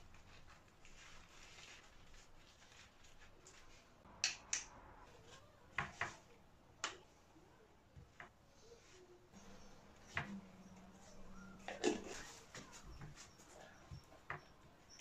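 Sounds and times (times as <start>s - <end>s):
faint rustling: 0.0s - 4.1s, 4.9s - 15.0s.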